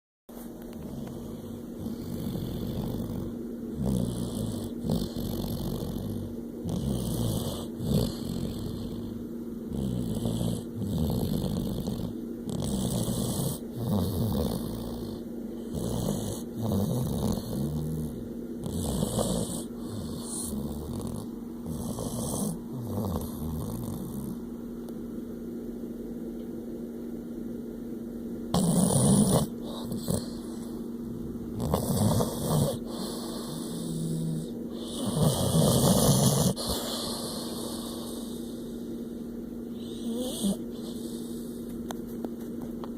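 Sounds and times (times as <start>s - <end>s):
dog breathing: 0.7s - 24.5s, 28.6s - 39.1s, 39.7s - 41.8s
dog snoring: 0.7s - 24.5s, 28.5s - 39.0s, 39.7s - 41.8s.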